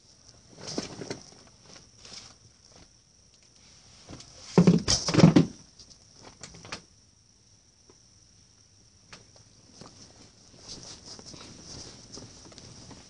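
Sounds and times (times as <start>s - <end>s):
faint high hiss: 0.0s - 13.0s.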